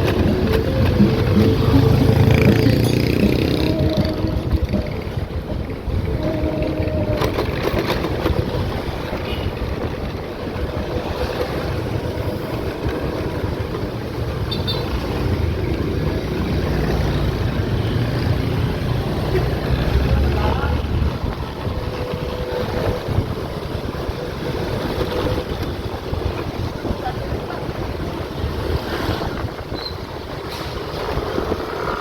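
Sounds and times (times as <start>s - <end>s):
wind buffeting microphone: 0.0s - 14.5s, 18.2s - 32.0s
vehicle engine and road rumble: 0.0s - 32.0s.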